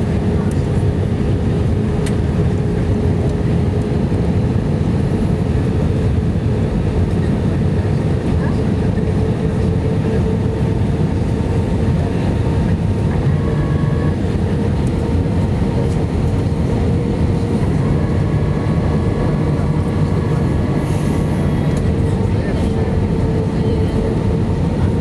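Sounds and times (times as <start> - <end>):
airplane cabin rumble: 0.0 - 25.0.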